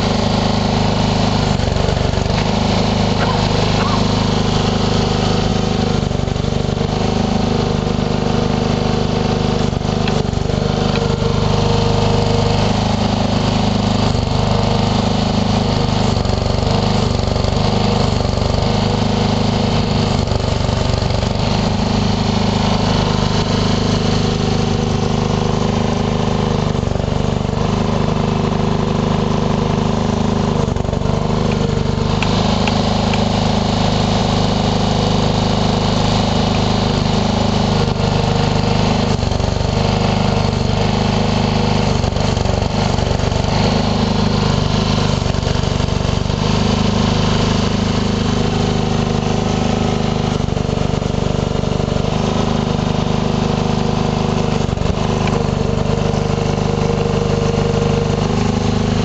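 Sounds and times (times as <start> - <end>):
backhoe hydraulics digging: 0.0 - 59.0
garden tractor engine running: 0.0 - 59.0.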